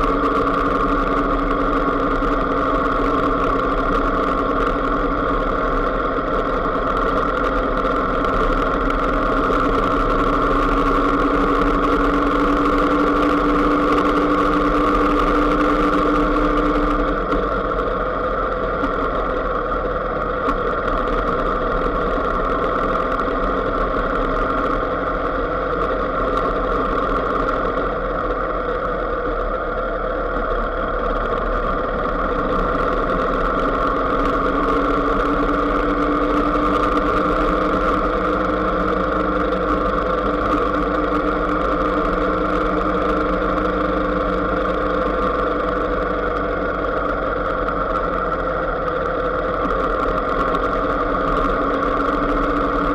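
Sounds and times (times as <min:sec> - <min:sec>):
vehicle engine humming: 0:00.0 - 0:52.9.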